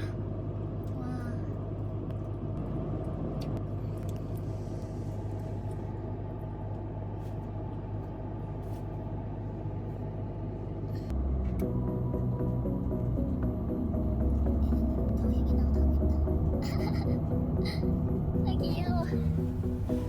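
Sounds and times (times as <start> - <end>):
car engine hum from inside: 0.0 - 20.0.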